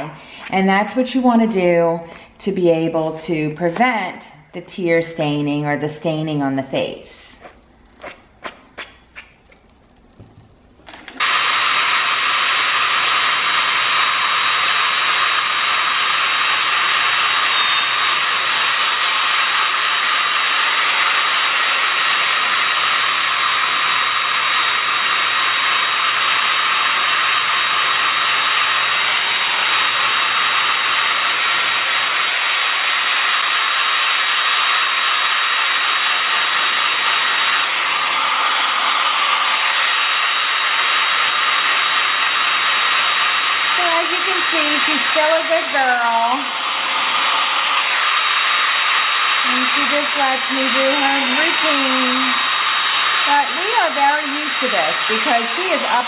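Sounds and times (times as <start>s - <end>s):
hair dryer blowing: 0.0s - 9.4s, 10.0s - 56.0s.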